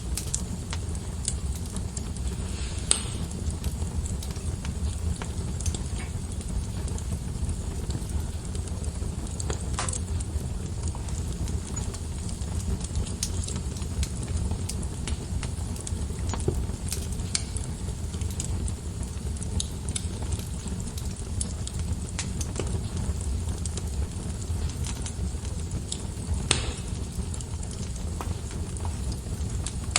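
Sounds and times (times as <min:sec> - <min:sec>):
flames rumbling: 0:00.0 - 0:29.9
logs crackling and popping: 0:00.0 - 0:29.9.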